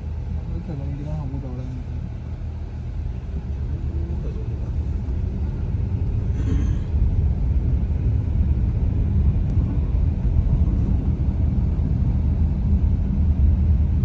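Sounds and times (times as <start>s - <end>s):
car engine low rumble: 0.0s - 14.0s.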